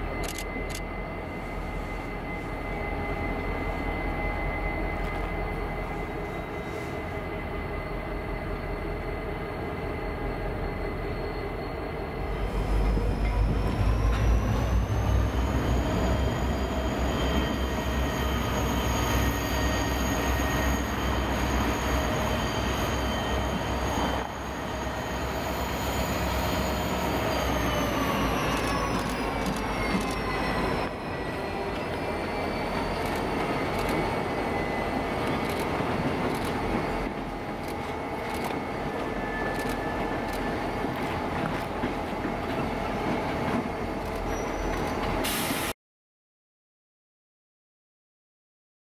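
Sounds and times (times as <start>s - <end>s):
diesel locomotive engine rumble: 0.0s - 45.7s.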